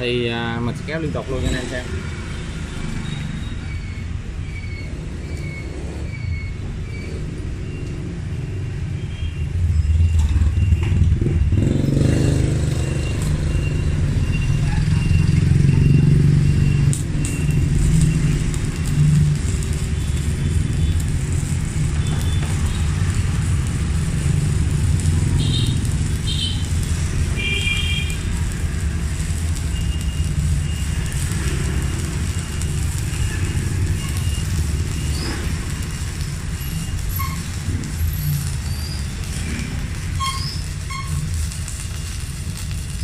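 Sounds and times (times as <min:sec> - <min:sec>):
welding arc buzzing crackle: 0:00.0 - 0:43.0.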